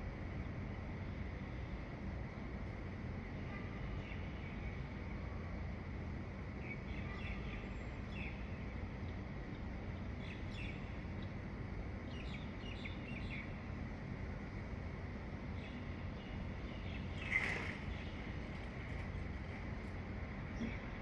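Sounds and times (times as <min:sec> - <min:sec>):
songbirds chirping: 0:03.5 - 0:21.0.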